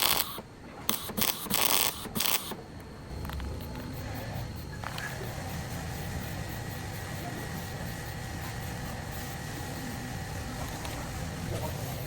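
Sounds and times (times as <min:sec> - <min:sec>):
faint steady whine: 0:00.0 - 0:12.0
low mechanical hum: 0:00.0 - 0:12.0.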